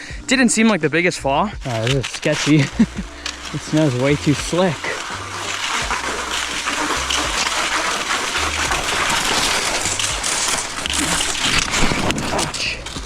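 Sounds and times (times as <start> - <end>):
skis sliding over icy snow: 0.0 - 13.0
low rumble: 1.2 - 13.0.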